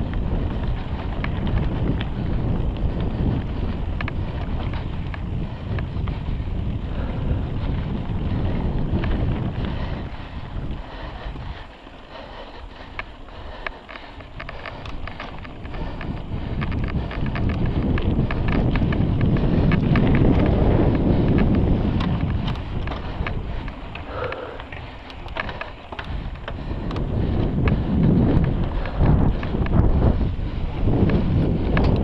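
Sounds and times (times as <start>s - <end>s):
bike clicks and rattles: 0.0s - 32.0s
bike tyres on dirt: 0.0s - 32.0s
wind buffeting microphone: 0.0s - 32.0s.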